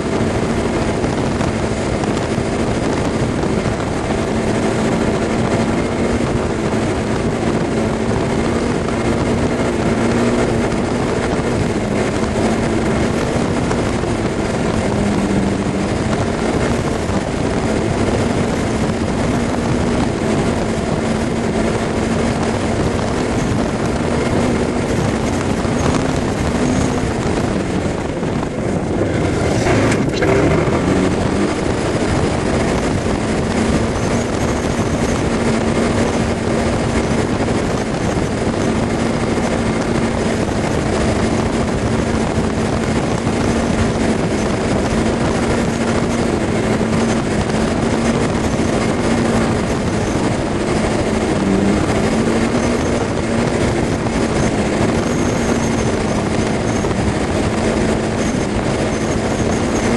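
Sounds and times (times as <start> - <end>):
scooter engine hum: 0.0 - 59.9
tyres and wind rushing: 0.0 - 59.9.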